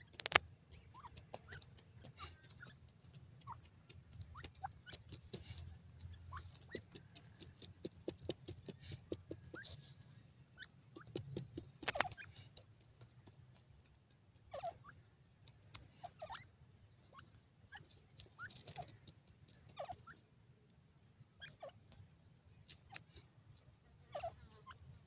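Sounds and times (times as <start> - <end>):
francolins chirping: 0.0 - 7.7, 8.6 - 20.3, 21.2 - 25.0.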